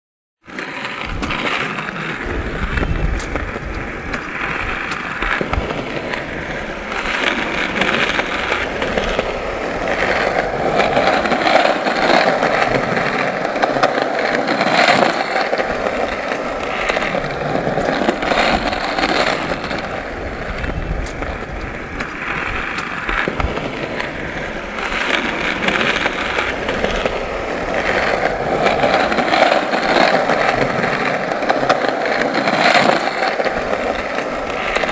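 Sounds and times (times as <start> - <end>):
skateboard wheels rolling: 0.4 - 34.9.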